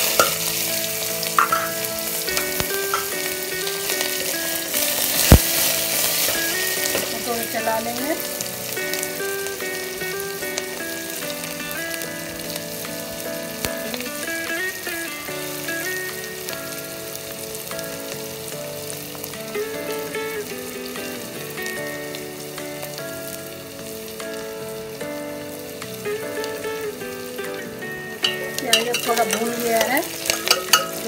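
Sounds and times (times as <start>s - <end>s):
faint music of held notes: 0.0s - 31.0s
onion frying in oil: 0.0s - 31.0s.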